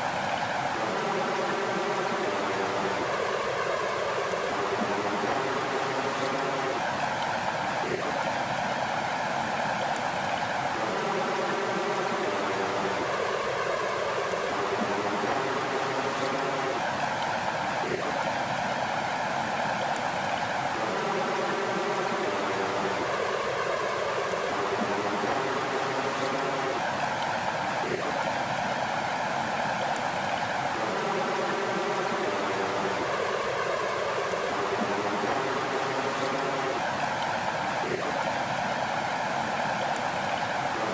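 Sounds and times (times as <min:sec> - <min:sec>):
flowing water rushing: 0:00.0 - 0:40.9
small waves lapping: 0:00.0 - 0:40.9.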